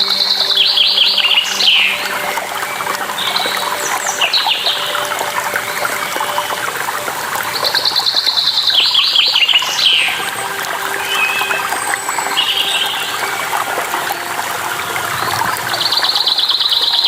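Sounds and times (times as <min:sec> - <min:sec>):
running water trickling: 0:00.0 - 0:17.0
songbirds chirping: 0:00.0 - 0:17.0.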